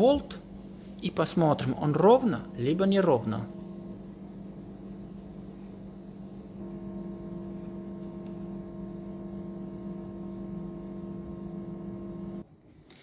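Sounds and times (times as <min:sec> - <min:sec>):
steady tonal hum: 0:00.0 - 0:12.5.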